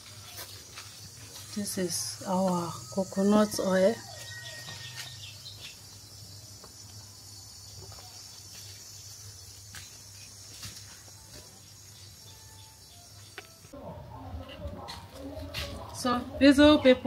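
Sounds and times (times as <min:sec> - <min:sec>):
insects chorus: 0:00.0 - 0:13.8.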